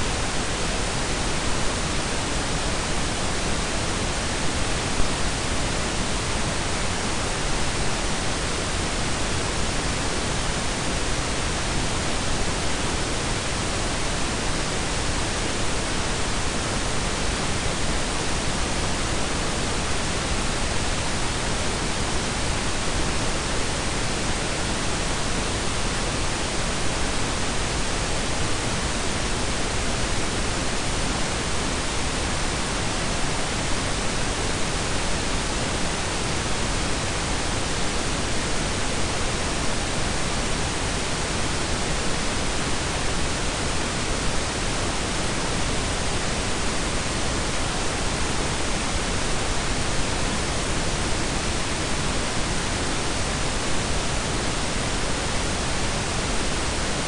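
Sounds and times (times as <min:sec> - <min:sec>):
steady noise hiss with deep rumble: 0:00.0 - 0:57.0.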